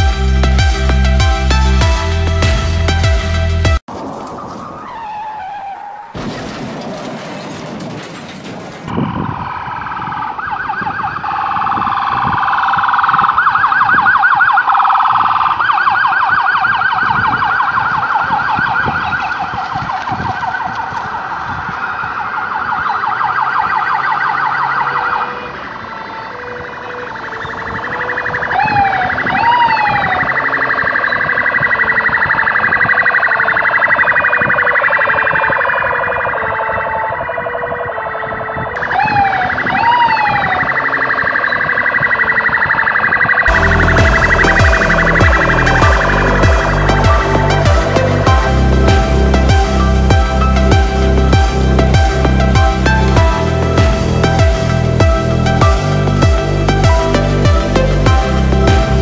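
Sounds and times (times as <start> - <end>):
wailing siren: 4.2 - 6.3, 8.9 - 59.0
siren whoops: 4.3 - 6.2, 8.9 - 59.0
fast yelping siren: 4.4 - 6.2, 8.9 - 59.0.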